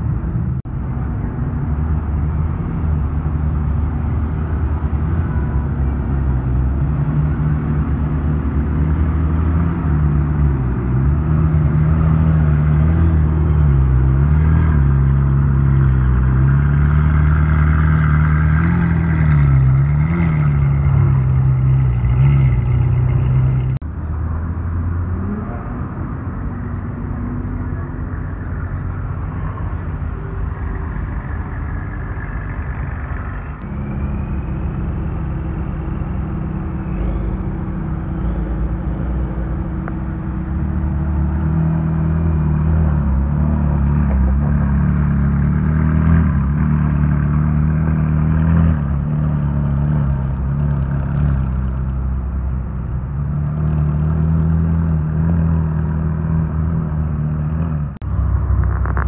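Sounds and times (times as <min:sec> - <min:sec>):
car engine running at low revs: 0:00.0 - 0:59.0
car moving off slowly: 0:00.0 - 0:59.0.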